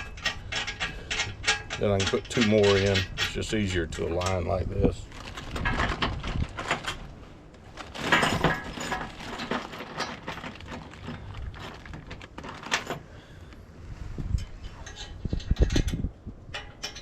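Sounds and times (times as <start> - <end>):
metal bolts and nuts clinking: 0.0 - 13.1, 14.3 - 17.0.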